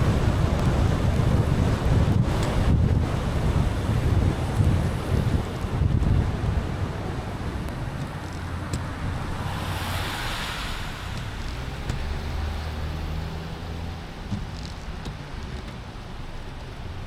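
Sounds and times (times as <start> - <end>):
car tyres hissing on wet road: 0.0 - 17.0.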